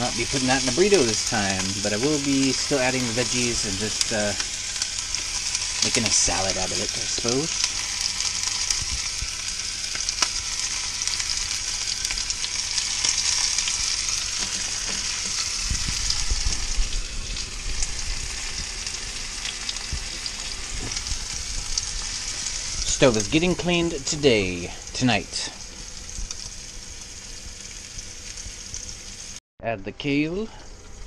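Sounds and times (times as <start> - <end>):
sausage sizzling in a skillet: 0.0 - 29.4.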